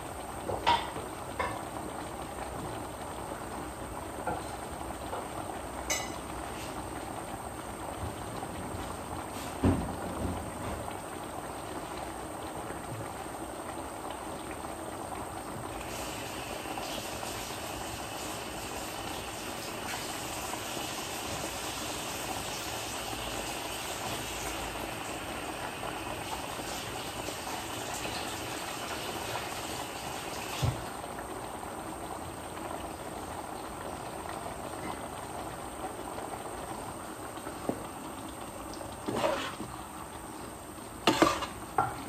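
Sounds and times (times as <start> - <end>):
food simmering with bubbling hiss: 0.0 - 42.0.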